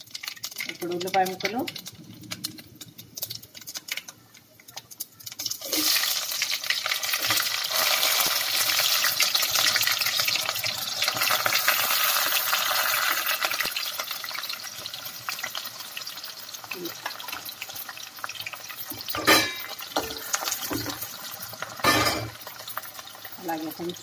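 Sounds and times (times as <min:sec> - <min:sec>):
onions sizzling in oil: 0:00.0 - 0:24.0
seeds crackling in oil: 0:00.0 - 0:24.0.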